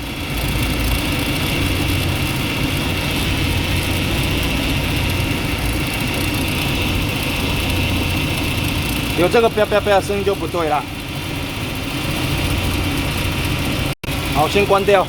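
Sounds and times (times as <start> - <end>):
car engine idling: 0.0 - 15.0
power steering pump whine: 0.0 - 15.0.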